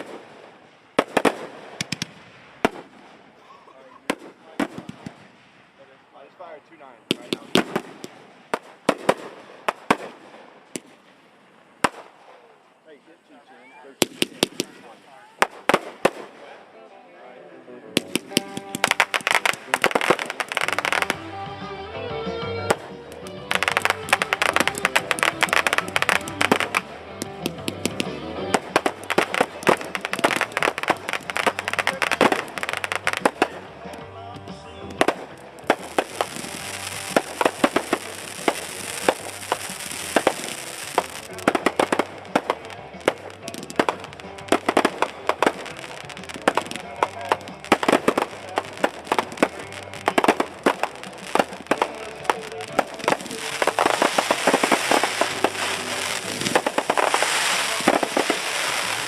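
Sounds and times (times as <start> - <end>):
fireworks bursting with sharp bangs: 0.0 - 16.8, 17.9 - 59.0.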